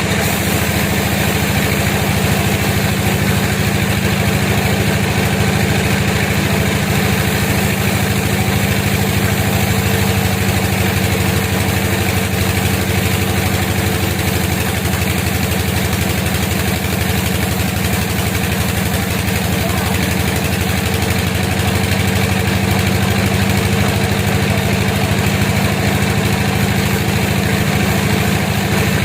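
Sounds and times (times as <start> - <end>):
sawmill engine droning: 0.0 - 29.0.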